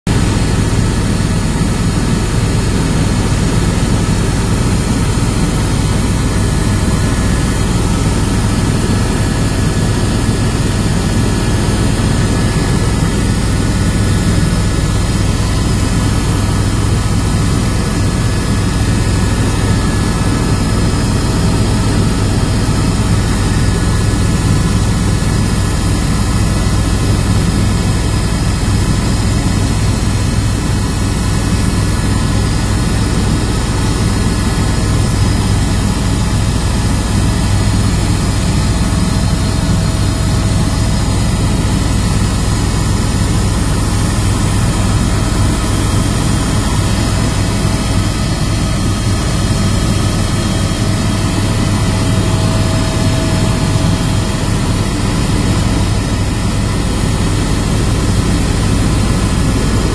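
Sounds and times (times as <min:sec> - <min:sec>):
helicopter engine and rotor drone: 0:00.1 - 0:59.9.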